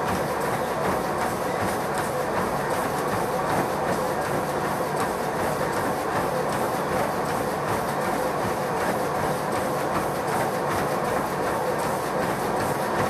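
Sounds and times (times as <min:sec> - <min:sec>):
footfalls pounding treadmill belt: 0:00.0 - 0:13.0
treadmill motor hum: 0:00.0 - 0:13.0.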